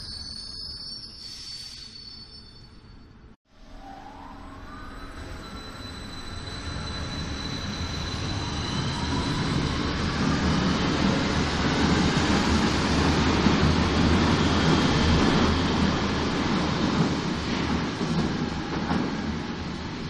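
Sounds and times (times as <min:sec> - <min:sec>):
electric train whine: 0:03.5 - 0:20.0.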